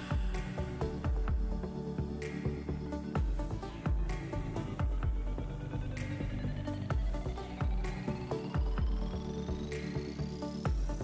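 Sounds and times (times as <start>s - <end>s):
background music with low thumps: 0.0s - 11.0s.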